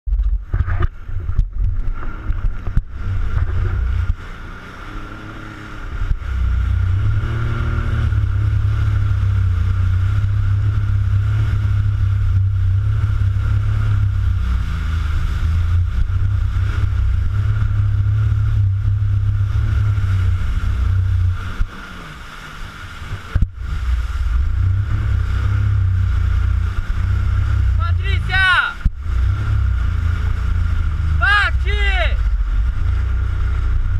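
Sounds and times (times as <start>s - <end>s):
wind rumble on microphone: 0.0s - 33.9s
jet ski engine whine: 0.1s - 33.9s.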